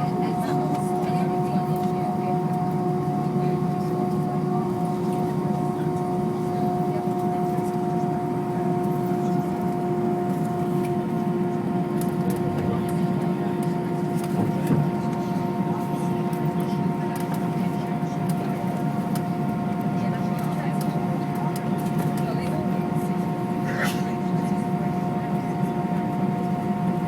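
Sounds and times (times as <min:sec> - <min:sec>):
jet engines rumbling with whine: 0:00.0 - 0:27.0.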